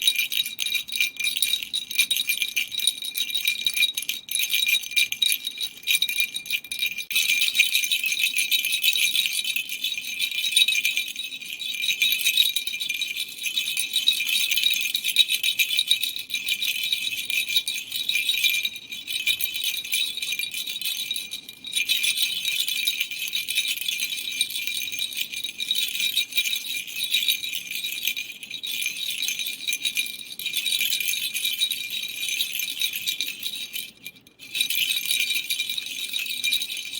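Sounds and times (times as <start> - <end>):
toy rattle jingling: 0.0 - 36.9.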